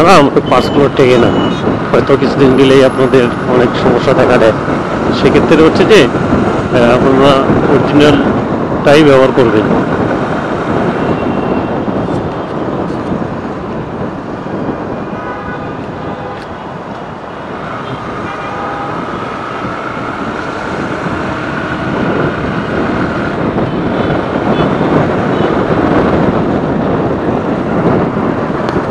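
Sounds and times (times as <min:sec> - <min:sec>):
wind and road noise: 0:00.0 - 0:28.9.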